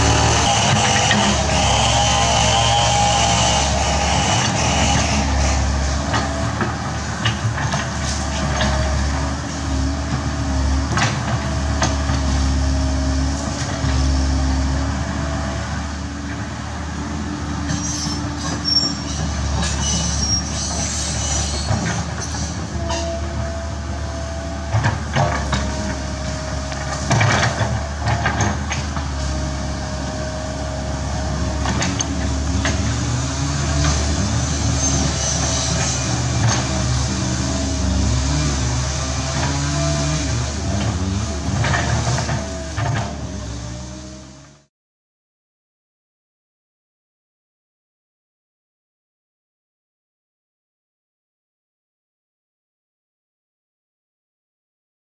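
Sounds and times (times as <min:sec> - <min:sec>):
excavator engine whining: 0:00.0 - 0:44.7.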